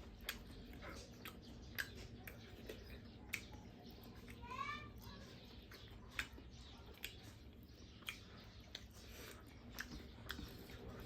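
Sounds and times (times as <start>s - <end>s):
person chewing food: 0.0s - 4.4s, 5.0s - 11.0s
faint low hum: 0.0s - 11.0s.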